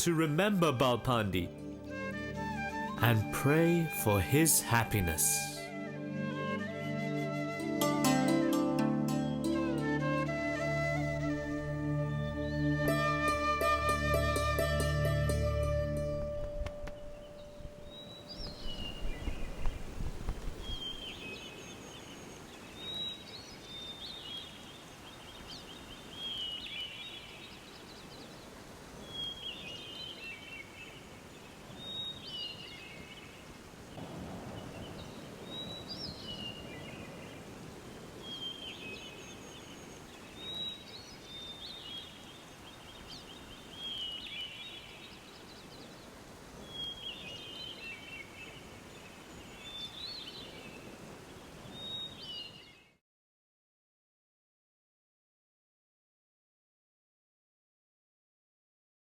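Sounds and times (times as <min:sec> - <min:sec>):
faint outdoor hiss: 0:00.0 - 0:06.2, 0:06.8 - 0:53.0.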